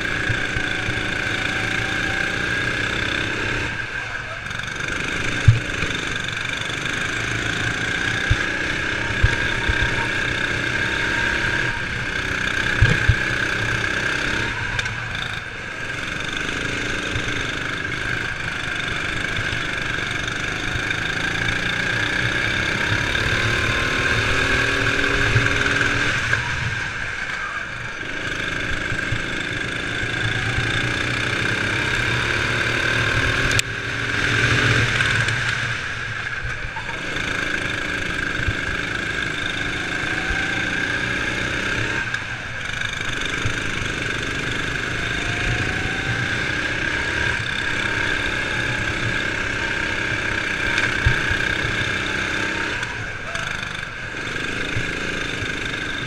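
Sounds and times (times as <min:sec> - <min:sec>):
kart engine racing: 0:00.0 - 0:56.0
other karts running alongside: 0:00.0 - 0:56.0.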